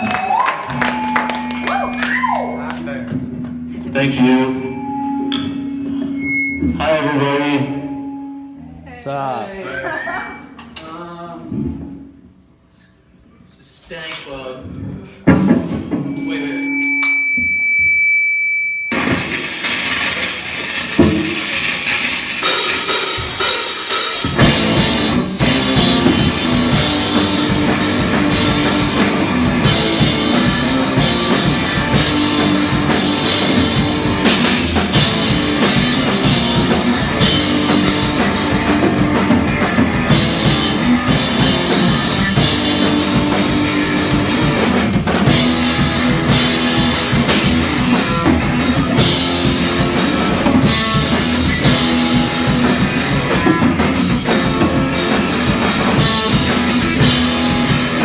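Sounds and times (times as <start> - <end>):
live rock band playing: 0.0 - 8.7, 18.9 - 58.0.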